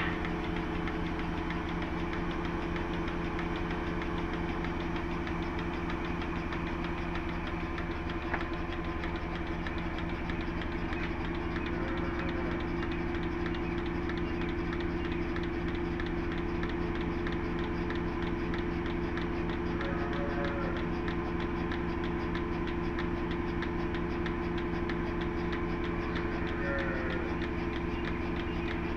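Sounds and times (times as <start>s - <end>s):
motor-driven machine humming: 0.0s - 28.9s.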